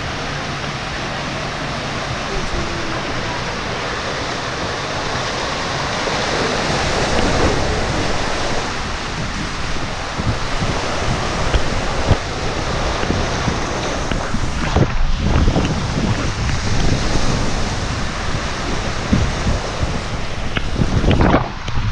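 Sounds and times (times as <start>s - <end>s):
water rushing through slide tube: 0.0s - 21.9s.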